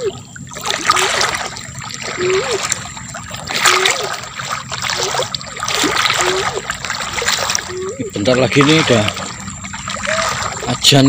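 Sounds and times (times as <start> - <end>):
footsteps wading through water: 0.0 - 11.0.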